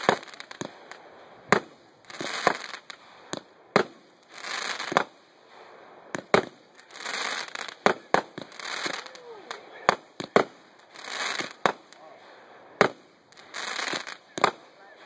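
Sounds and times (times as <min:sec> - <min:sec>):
firework hissing rushes: 0:00.0 - 0:09.6, 0:10.2 - 0:12.0, 0:12.8 - 0:14.2
firework bangs: 0:00.0 - 0:15.0.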